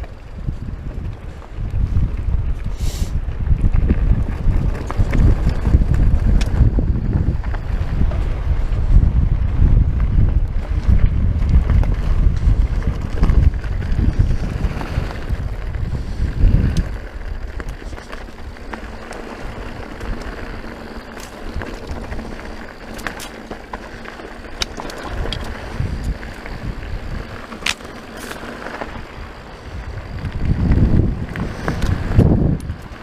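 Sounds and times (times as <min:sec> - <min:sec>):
mountain bike rolling on dirt: 0:00.0 - 0:33.0
wind buffeting microphone: 0:00.0 - 0:33.0.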